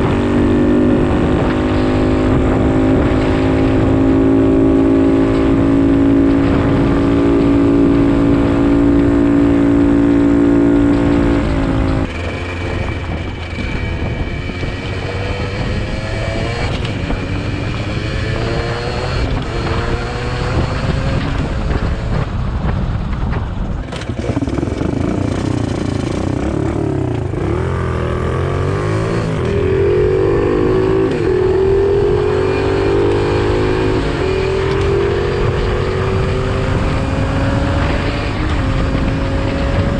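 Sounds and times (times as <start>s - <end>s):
pit bike engine revving: 0.0s - 21.5s, 23.8s - 39.9s.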